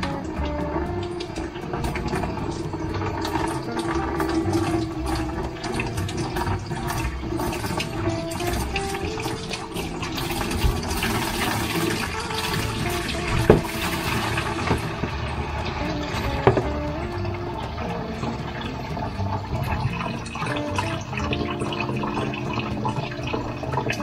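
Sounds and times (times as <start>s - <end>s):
water pouring into plastic bucket: 0.0s - 24.0s.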